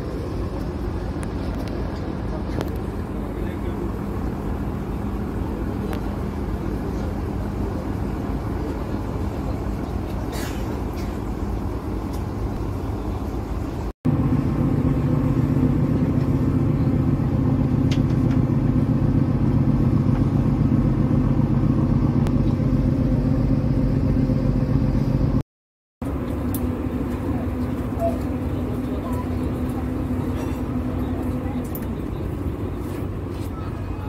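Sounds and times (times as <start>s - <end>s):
ferry engine droning: 0.0s - 25.4s, 26.0s - 34.0s.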